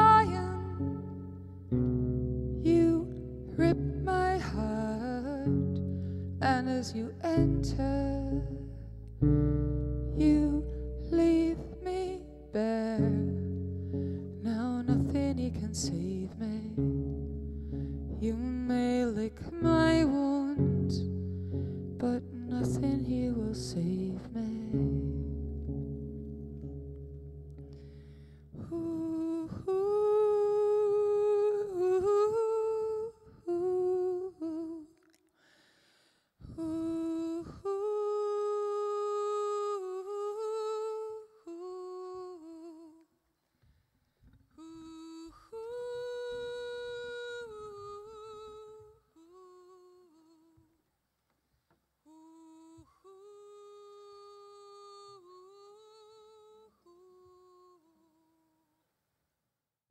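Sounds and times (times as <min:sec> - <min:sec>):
person humming a slow melody: 0:00.0 - 0:35.0, 0:36.4 - 0:43.1, 0:44.6 - 0:50.7, 0:52.1 - 0:58.6.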